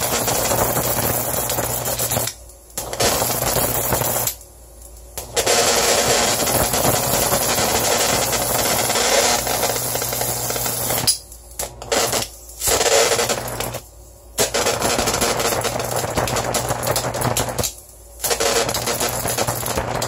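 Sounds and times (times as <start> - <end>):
electric arc crackling buzz: 0.0 - 20.0.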